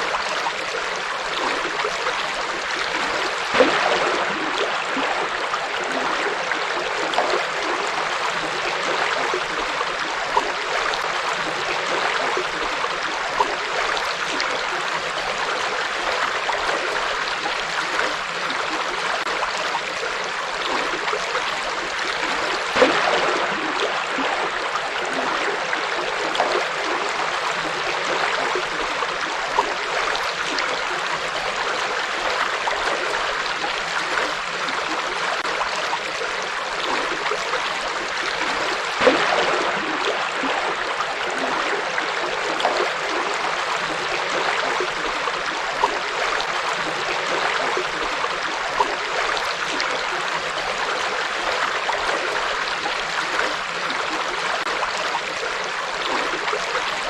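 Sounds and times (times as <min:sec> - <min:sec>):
river water rushing and gurgling: 0:00.0 - 0:57.0
water splashes: 0:00.0 - 0:57.0.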